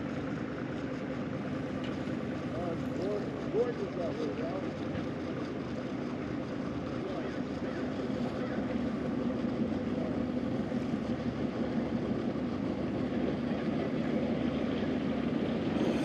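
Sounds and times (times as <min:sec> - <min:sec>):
motor droning: 0:01.4 - 0:16.0.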